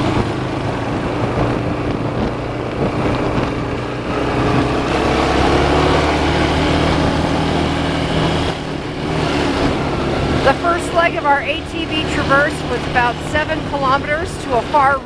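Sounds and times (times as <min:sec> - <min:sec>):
atv engine running: 0:00.0 - 0:15.0
rushing noise over rough ground: 0:00.0 - 0:15.0.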